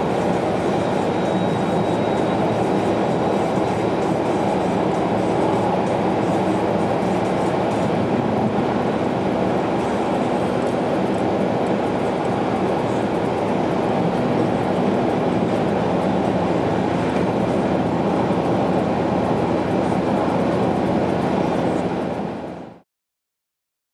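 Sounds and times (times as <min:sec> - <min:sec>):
low engine hum: 0:00.0 - 0:22.8.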